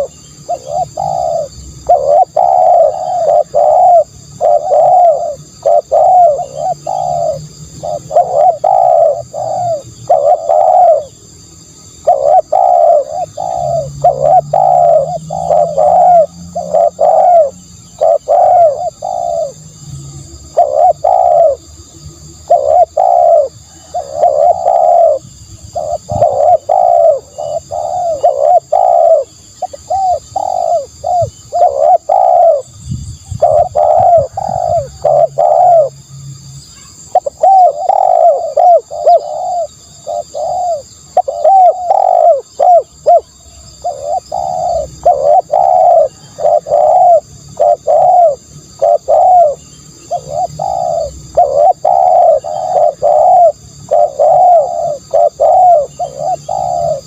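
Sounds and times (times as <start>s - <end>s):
doves cooing: 0.0s - 36.0s, 36.9s - 57.0s
faint high-pitched whine: 0.0s - 57.0s.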